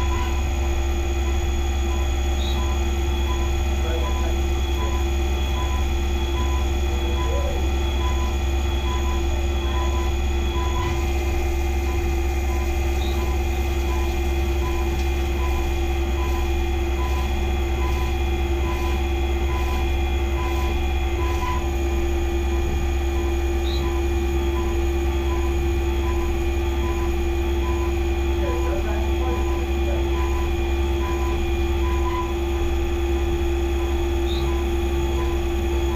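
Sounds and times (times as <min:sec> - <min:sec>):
faint regular pulsing: 0:00.0 - 0:35.9
low machine hum: 0:00.0 - 0:35.9
milling machine spindle whine: 0:00.0 - 0:35.9.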